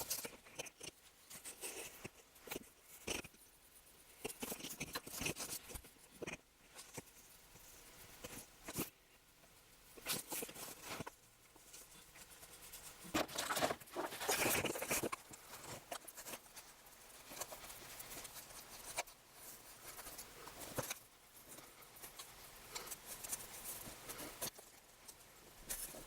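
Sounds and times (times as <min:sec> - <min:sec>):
scratching on small metal object: 0:00.0 - 0:09.0, 0:09.8 - 0:26.0.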